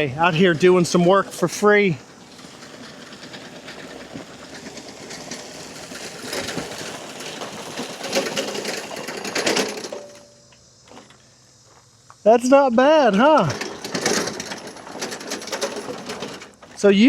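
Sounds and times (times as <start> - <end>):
tracked mower running: 0.0 - 11.1, 12.5 - 17.0
gravel crunching and scraping: 0.0 - 17.0.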